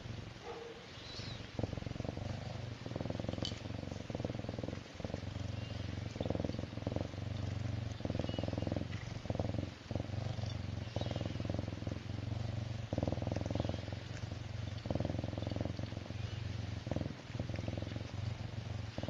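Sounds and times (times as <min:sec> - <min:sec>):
serval purring: 0:00.0 - 0:19.0.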